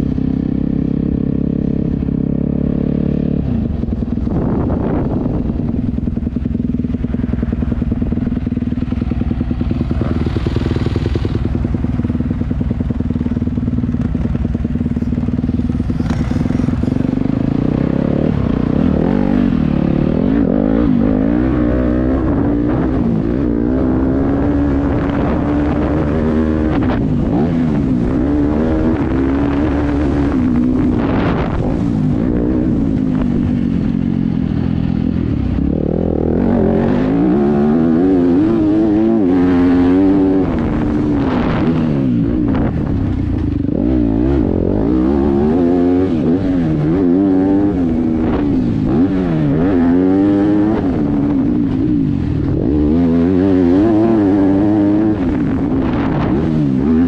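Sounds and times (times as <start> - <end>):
motocross bike engine revving: 6.3 - 57.0.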